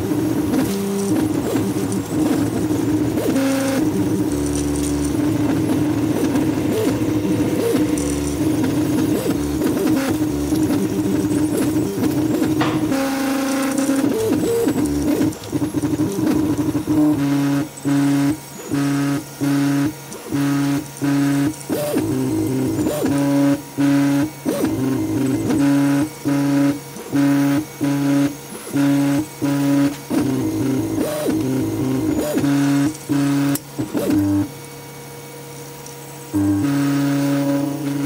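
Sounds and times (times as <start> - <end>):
stepper motors humming: 0.0 - 34.8, 35.5 - 38.0.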